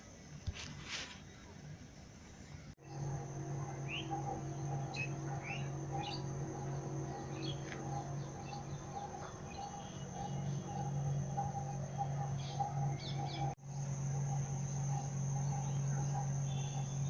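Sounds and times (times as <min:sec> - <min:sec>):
steady low hum: 0:00.0 - 0:17.0
small birds chirping: 0:02.8 - 0:17.0.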